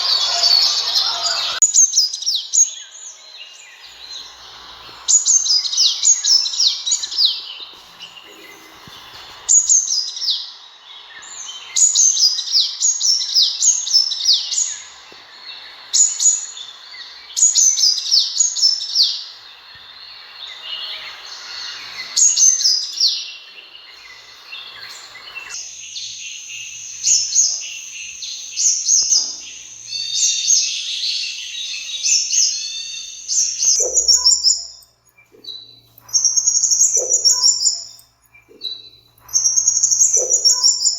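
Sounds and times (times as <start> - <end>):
bird chirping rapidly: 0.0 - 10.6, 11.2 - 40.9
thin high twittering: 0.0 - 12.6, 13.6 - 40.9
background hiss: 0.0 - 40.9.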